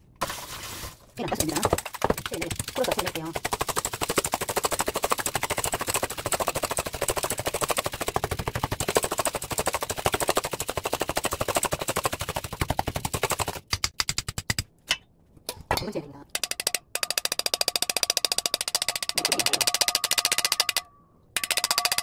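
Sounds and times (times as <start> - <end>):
whisk clicking in metal bowl: 1.4 - 14.3, 16.3 - 22.0.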